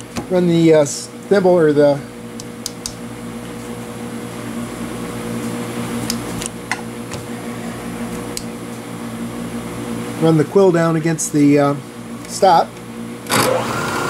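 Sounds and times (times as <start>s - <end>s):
milling machine motor humming: 0.0s - 14.0s.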